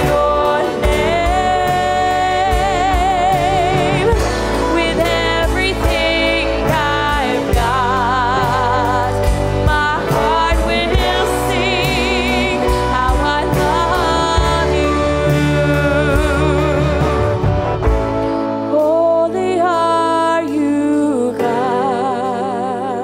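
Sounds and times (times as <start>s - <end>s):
women singing worship song: 0.0s - 17.5s, 18.7s - 23.0s
low band accompaniment: 0.0s - 22.7s
acoustic guitar: 0.0s - 23.0s.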